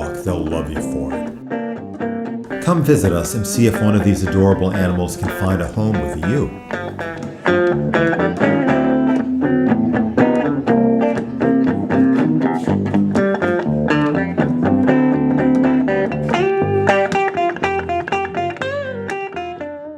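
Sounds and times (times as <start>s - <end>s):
blues guitar music: 0.0s - 19.9s.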